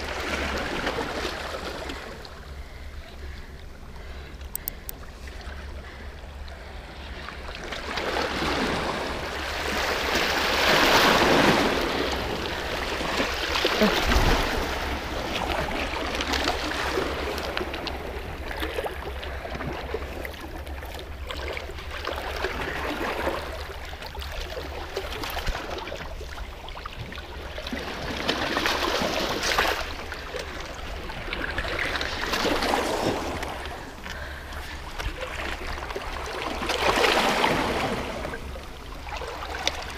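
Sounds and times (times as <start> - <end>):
waves splashing against rocks: 0.0 - 2.4, 7.2 - 39.9.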